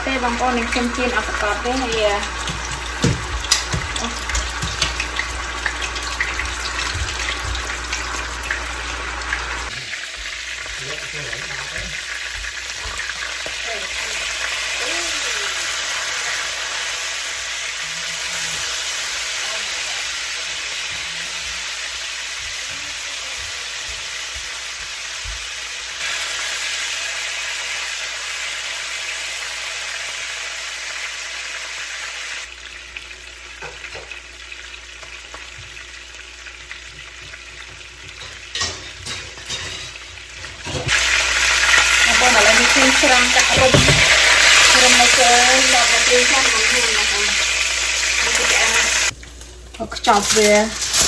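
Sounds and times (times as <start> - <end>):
steak sizzling in a frying pan: 0.0 - 51.0.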